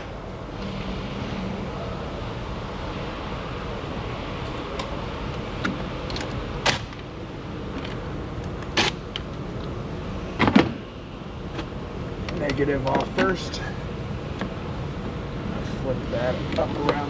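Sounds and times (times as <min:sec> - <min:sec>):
steady shop hum: 0:00.0 - 0:17.0.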